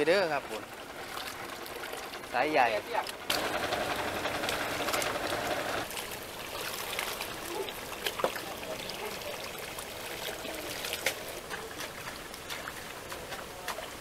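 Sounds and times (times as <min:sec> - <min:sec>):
water pouring rush: 0:00.0 - 0:14.0
water splashing and trickling: 0:00.0 - 0:14.0.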